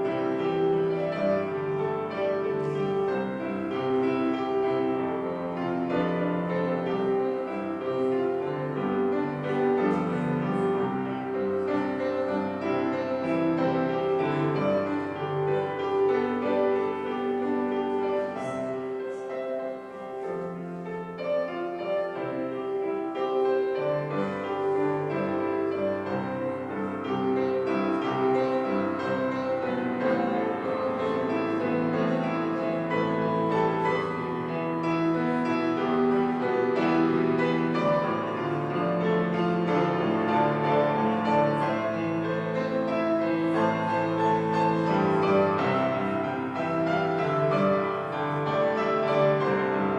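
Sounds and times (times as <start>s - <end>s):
slow solo piano: 0.0s - 49.9s.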